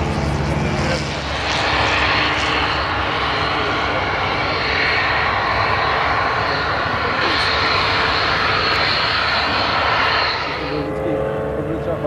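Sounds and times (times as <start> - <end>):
aircraft engine roaring: 0.0 - 12.0
high engine whine: 0.0 - 12.0.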